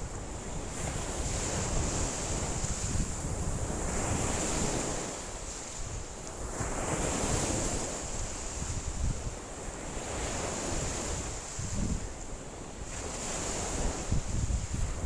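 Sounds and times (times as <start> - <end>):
wind buffeting microphone: 0.0 - 5.0, 5.9 - 12.2, 13.0 - 15.0.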